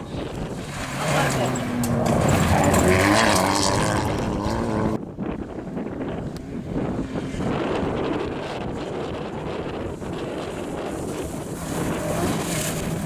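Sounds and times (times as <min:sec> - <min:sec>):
rally car engine: 0:00.0 - 0:13.0
wind buffeting microphone: 0:00.0 - 0:13.0.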